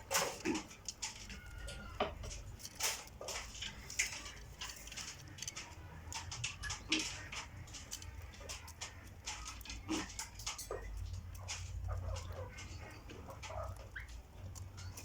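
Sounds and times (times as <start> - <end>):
pigeons scratching and rustling: 0.0 - 15.0.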